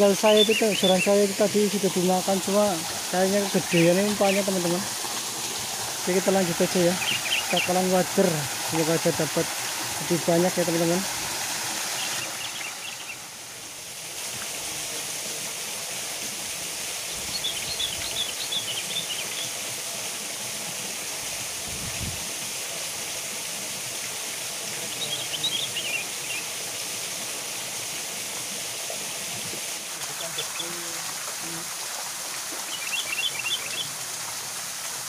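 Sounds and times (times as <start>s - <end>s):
waterfall splashing into pool: 0.0s - 35.0s.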